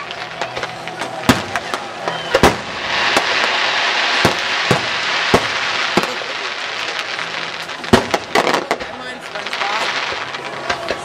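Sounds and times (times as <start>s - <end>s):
crackling hiss: 0.0s - 11.0s
fireworks bangs: 0.0s - 11.0s.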